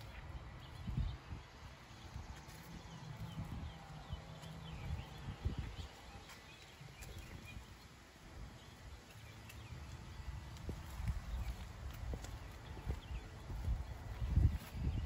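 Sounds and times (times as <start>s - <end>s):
small birds chirping: 0.0s - 15.0s
footsteps walking: 1.9s - 15.0s.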